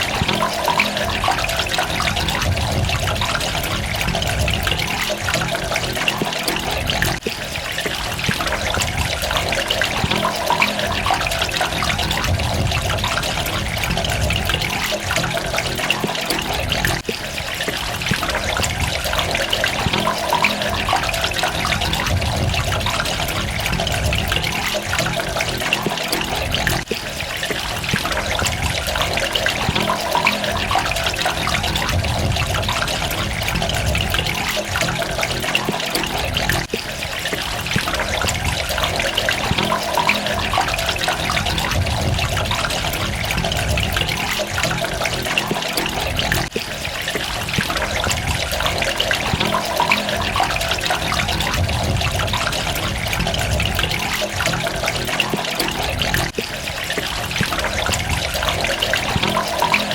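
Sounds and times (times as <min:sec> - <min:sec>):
drops splashing: 0:00.0 - 0:59.9
water running and trickling: 0:00.0 - 0:59.9.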